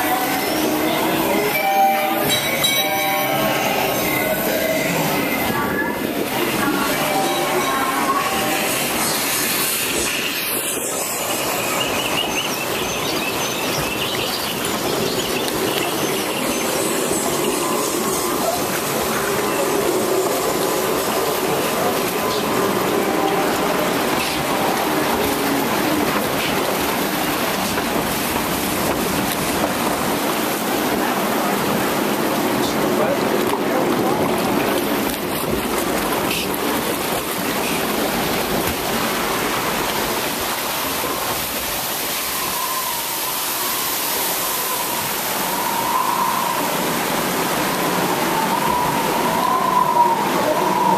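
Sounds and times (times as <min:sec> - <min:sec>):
water rushing and splashing: 0:00.0 - 0:50.9.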